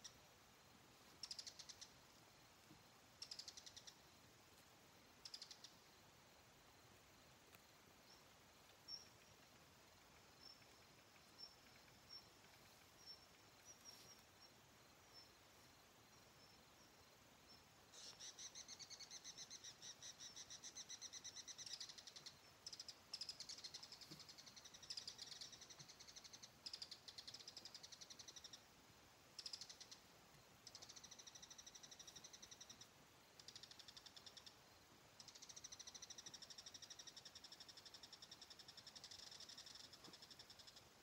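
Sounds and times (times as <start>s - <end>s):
insect trills: 0.0s - 41.0s.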